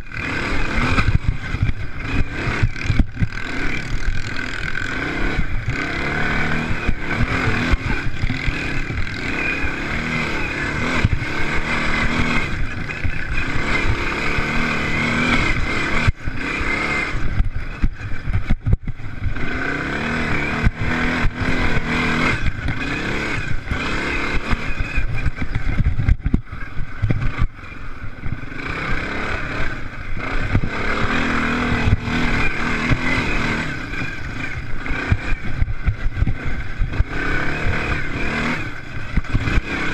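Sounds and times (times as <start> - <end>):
racing engines revving: 0.0 - 39.9.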